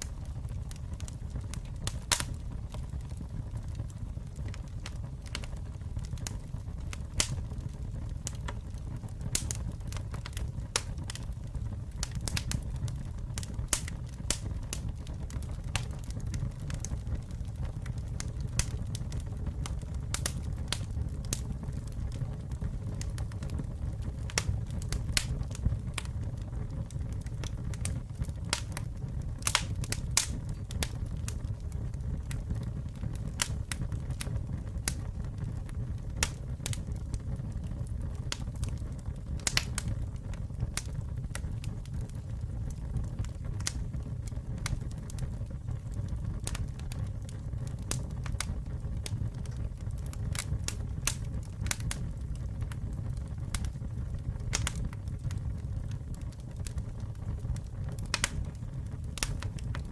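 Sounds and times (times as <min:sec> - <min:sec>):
burning wood crackling and popping: 0:00.0 - 0:59.9
low rumble of flames: 0:00.0 - 0:59.9.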